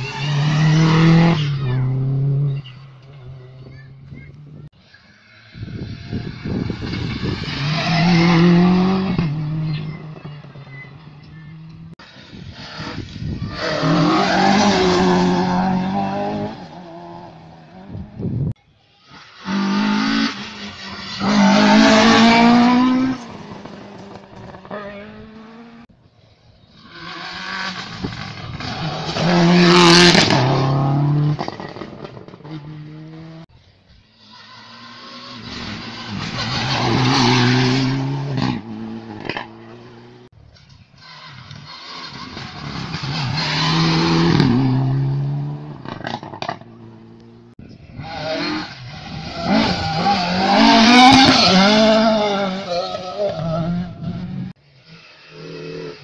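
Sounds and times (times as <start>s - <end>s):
rally cars racing past: 0.0s - 3.8s, 4.8s - 18.2s, 19.1s - 25.9s, 26.8s - 33.5s, 34.2s - 40.3s, 41.1s - 56.0s.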